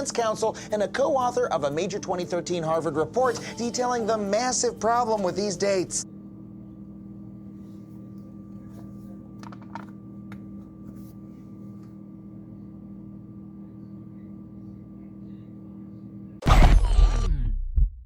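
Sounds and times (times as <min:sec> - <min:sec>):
faint high whine: 0:00.0 - 0:16.4
electrical hum: 0:00.0 - 0:17.9.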